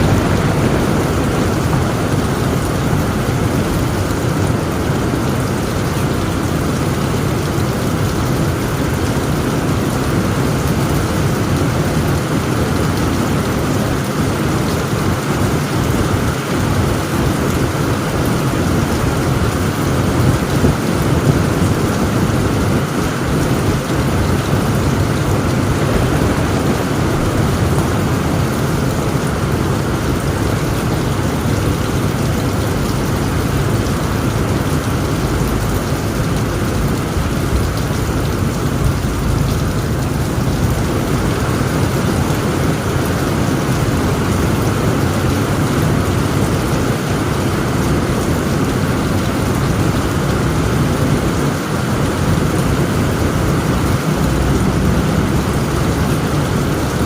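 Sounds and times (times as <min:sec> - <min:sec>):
low rumble of thunder: 0:00.0 - 0:47.0, 0:47.9 - 0:57.0
heavy rain on tent: 0:00.0 - 0:57.0.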